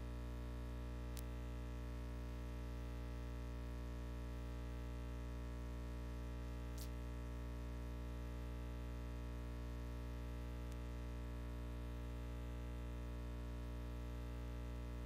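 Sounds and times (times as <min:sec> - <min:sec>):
electrical hum with buzzing overtones: 0:00.0 - 0:15.0.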